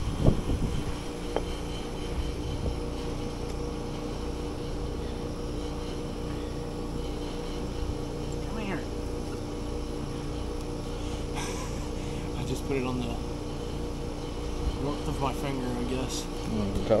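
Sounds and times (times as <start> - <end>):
outdoor air conditioner humming: 0.0 - 17.0.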